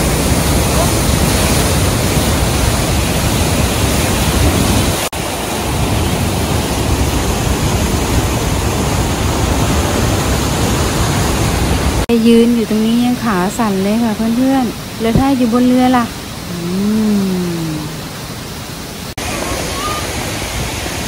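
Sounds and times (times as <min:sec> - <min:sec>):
large waterfall rushing: 0:00.0 - 0:21.0.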